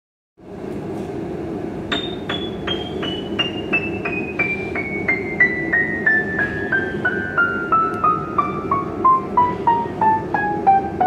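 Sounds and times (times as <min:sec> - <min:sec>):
steady background noise: 0:00.4 - 0:11.0
piano descending run: 0:01.9 - 0:11.0.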